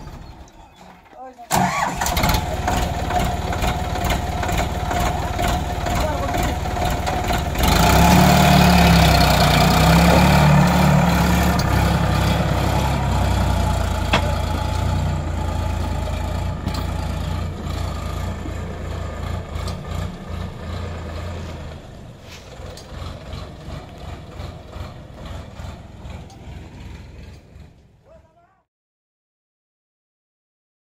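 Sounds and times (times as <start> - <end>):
tractor diesel engine revving: 1.5 - 28.4.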